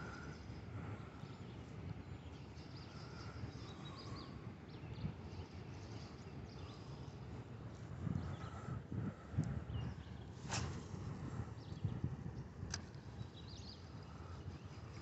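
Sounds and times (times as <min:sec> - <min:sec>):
birds chirping and singing: 0:00.0 - 0:07.4, 0:08.0 - 0:10.4, 0:11.3 - 0:15.0
low steady rumble: 0:00.0 - 0:15.0.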